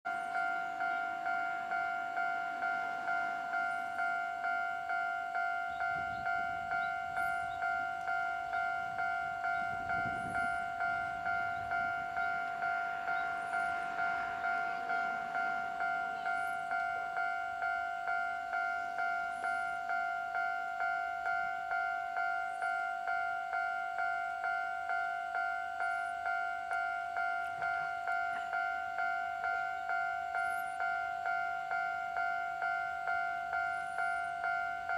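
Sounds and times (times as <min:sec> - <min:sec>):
two-tone crossing warning bell: 0:00.1 - 0:34.9.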